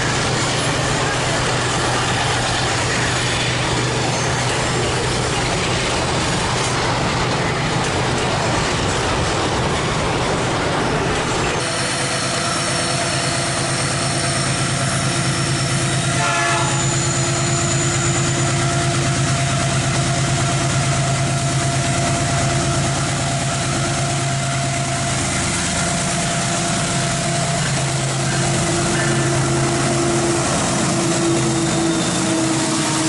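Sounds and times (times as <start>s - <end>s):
diesel locomotive droning hum: 0.0s - 33.0s.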